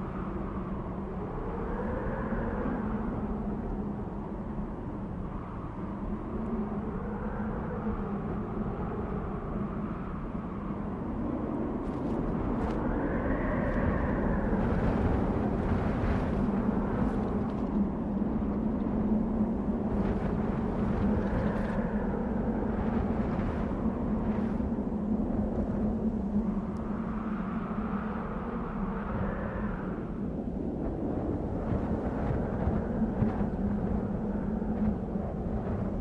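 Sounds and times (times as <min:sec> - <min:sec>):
wind blowing in gusts: 0:00.0 - 0:36.0.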